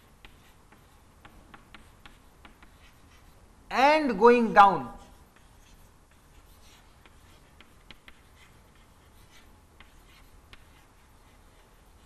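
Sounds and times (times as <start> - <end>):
chalk tapping on board: 0.0 - 3.3, 5.1 - 12.0
chalk scratching on blackboard: 0.0 - 3.5, 4.9 - 12.0.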